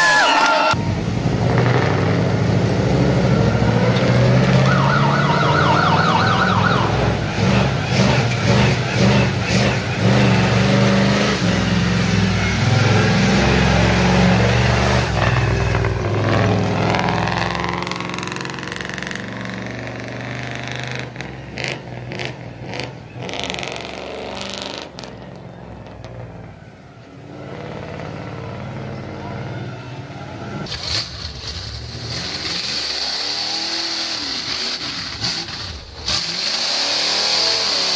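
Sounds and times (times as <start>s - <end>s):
loud truck engine running: 0.7s - 37.9s.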